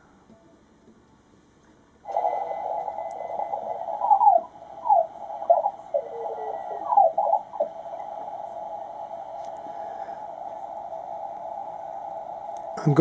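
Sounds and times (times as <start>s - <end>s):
radio receiver hiss: 2.0s - 13.0s
gliding whistling tones: 2.1s - 13.0s.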